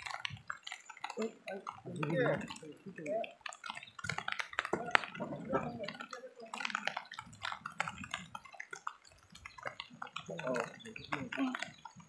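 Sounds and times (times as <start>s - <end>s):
river water splashing: 0.0s - 5.2s, 5.8s - 12.0s
small clicks and knocks: 0.0s - 12.0s.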